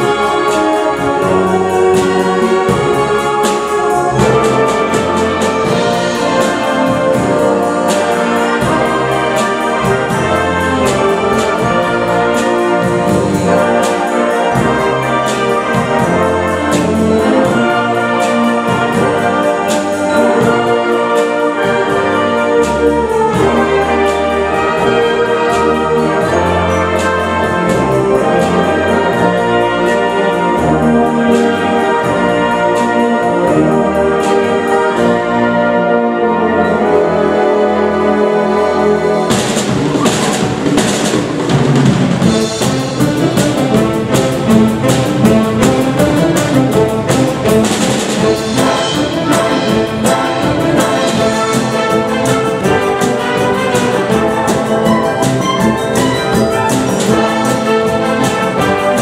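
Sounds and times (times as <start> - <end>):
steady drum beat: 0.0 - 59.0
wind band playing pop arrangement: 0.0 - 59.0.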